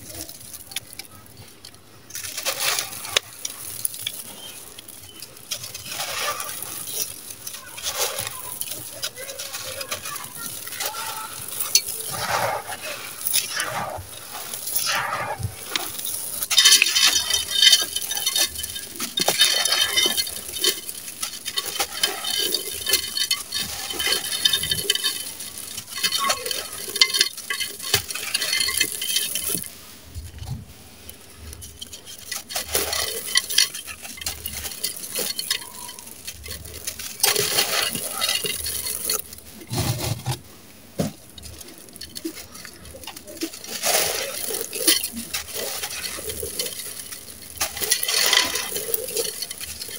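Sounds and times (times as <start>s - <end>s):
sand-cement crunching by hand: 0.0s - 49.9s.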